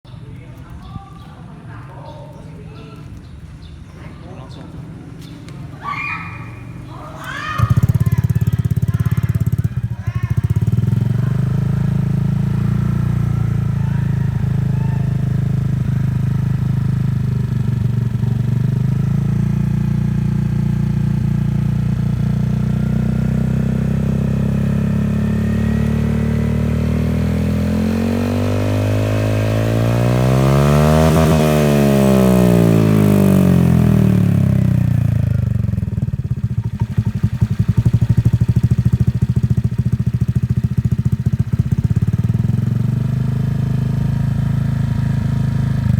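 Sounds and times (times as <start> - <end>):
scooter engine running: 4.9 - 45.9
scooter engine revving: 6.0 - 45.9.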